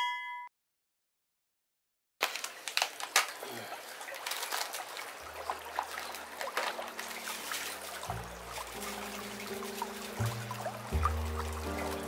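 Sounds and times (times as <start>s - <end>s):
water drips and plinks: 2.2s - 12.0s
water trickling and splashing: 2.2s - 12.0s.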